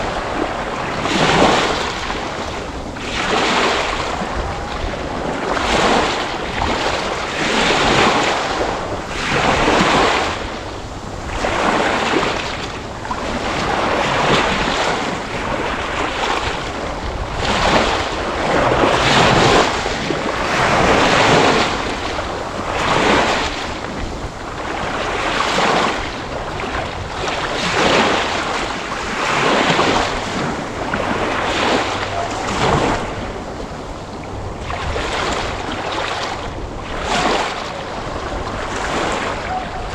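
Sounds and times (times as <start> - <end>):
surf rushing: 0.0 - 39.9.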